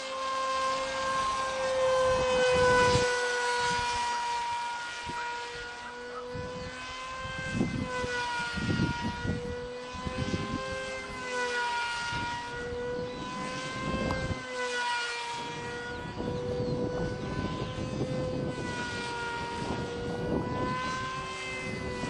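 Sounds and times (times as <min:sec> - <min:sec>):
rc plane motor whine: 0:00.0 - 0:22.0
wind rumbling on microphone: 0:00.8 - 0:04.2, 0:05.0 - 0:14.6, 0:15.4 - 0:22.0.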